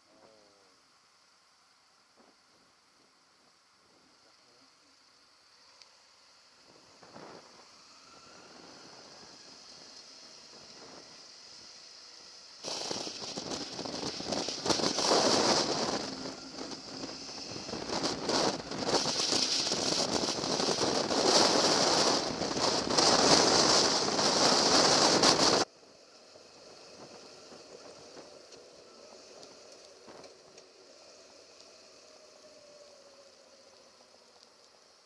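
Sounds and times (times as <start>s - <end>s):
wind and road noise rushing: 5.5s - 35.0s.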